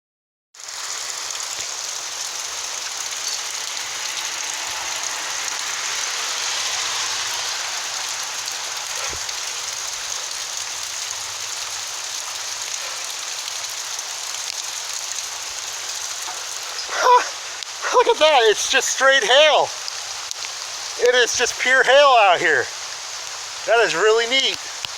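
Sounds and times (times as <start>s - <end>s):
hail pelting down: 0.6s - 24.9s.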